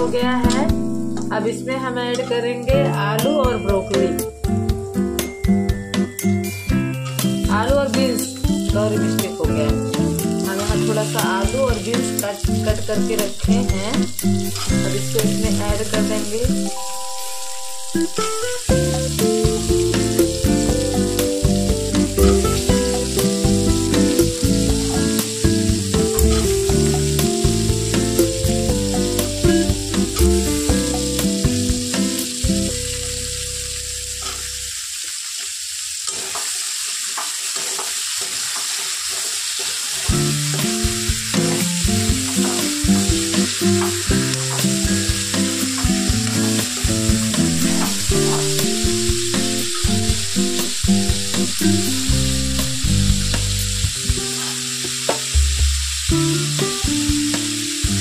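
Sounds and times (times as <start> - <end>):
vegetables sizzling in oil: 0.0 - 58.0.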